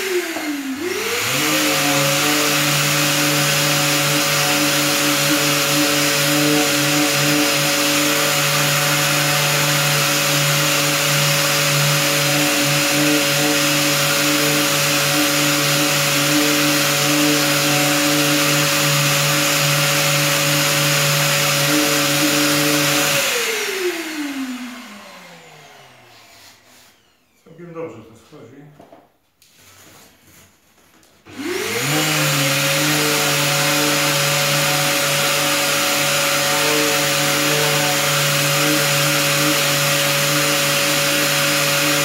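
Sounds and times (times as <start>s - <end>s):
power sander sanding plastic: 0.0s - 27.6s, 31.2s - 42.0s.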